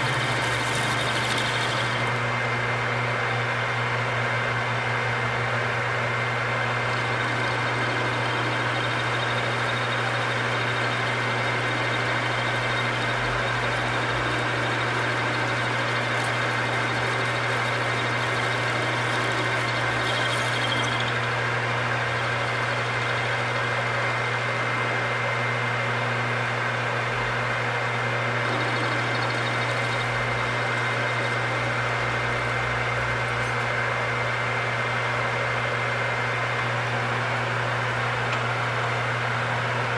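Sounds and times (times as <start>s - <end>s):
metal lathe humming: 0.0s - 2.9s, 4.9s - 39.4s.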